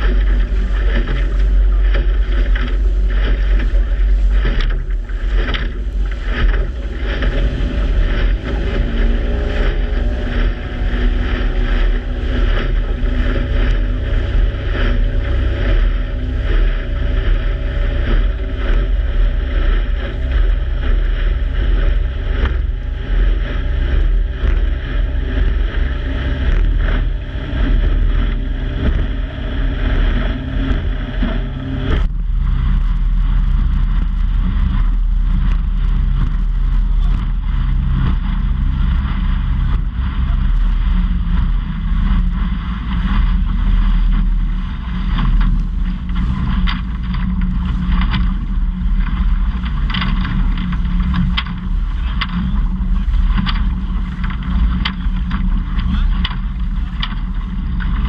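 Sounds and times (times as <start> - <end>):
motorboat engine rumble: 0.0 - 58.0
water rushing past hull: 0.0 - 58.0
wind buffeting microphone: 0.0 - 58.0.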